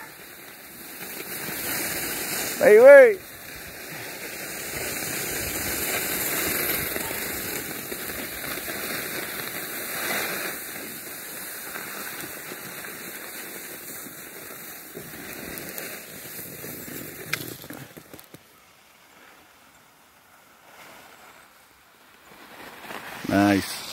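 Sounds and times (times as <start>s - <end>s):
skis hissing on snow: 0.0s - 18.1s, 18.8s - 23.9s.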